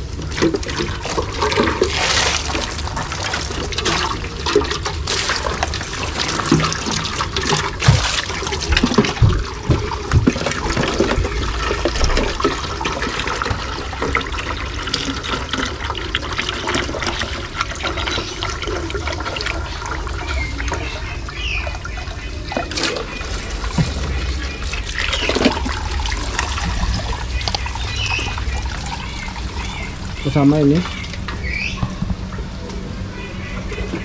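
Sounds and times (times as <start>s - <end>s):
water running from a hose: 0.0s - 31.5s
water splashing into a basin: 0.0s - 31.7s.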